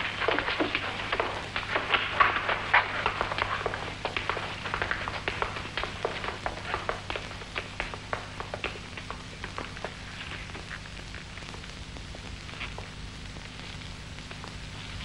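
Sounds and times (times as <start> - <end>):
footsteps of shoes: 0.0 - 15.0.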